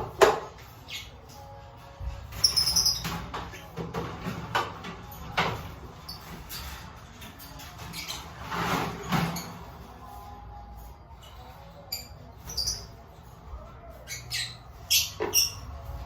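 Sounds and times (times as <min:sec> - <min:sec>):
birds chirping and squawking: 0:00.0 - 0:16.0.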